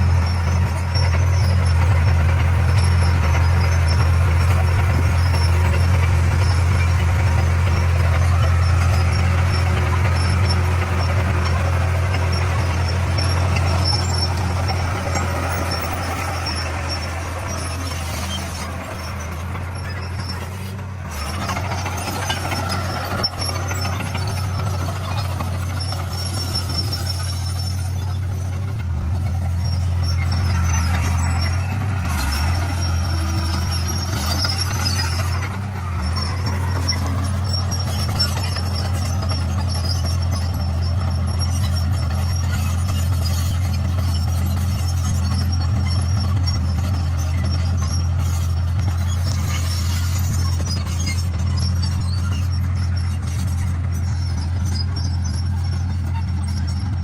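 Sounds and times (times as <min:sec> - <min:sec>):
bulldozer diesel engine under load: 0:00.0 - 0:57.0
high squealing: 0:00.0 - 0:57.0.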